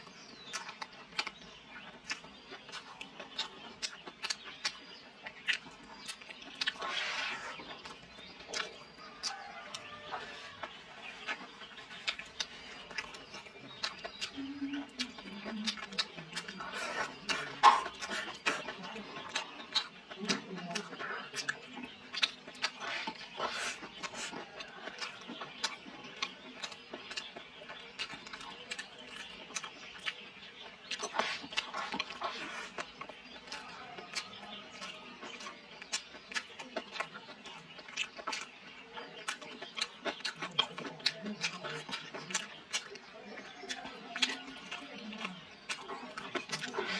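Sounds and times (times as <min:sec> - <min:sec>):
person chewing and smacking: 0:00.0 - 0:46.9.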